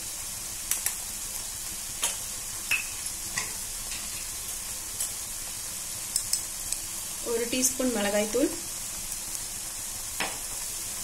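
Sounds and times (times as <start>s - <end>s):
paste sizzling in oil: 0.0s - 11.0s.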